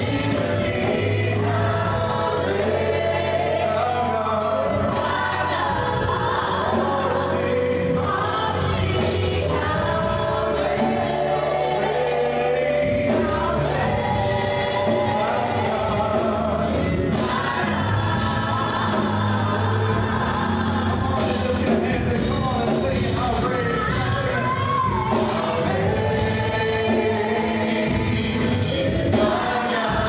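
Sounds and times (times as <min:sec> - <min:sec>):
band accompaniment with bass: 0:00.0 - 0:30.0
gospel choir singing: 0:00.0 - 0:30.0.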